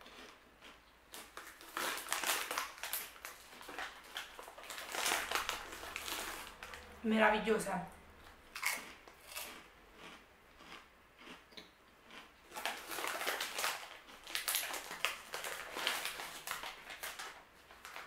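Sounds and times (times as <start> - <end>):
chips being chewed: 0.0 - 6.9, 8.2 - 18.0.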